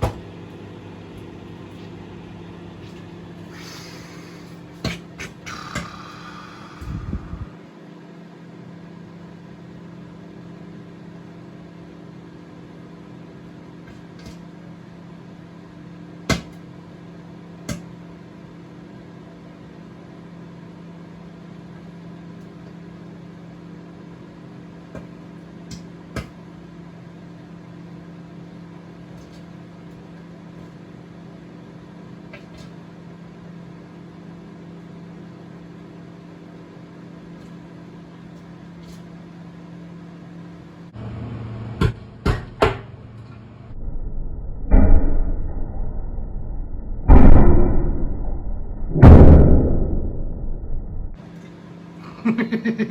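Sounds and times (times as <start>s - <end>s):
microwave oven humming: 0.0s - 44.6s, 50.0s - 52.9s.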